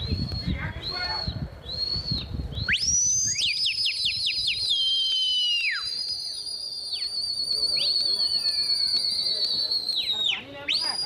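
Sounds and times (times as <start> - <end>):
people whistling loudly: 0.0 - 11.0.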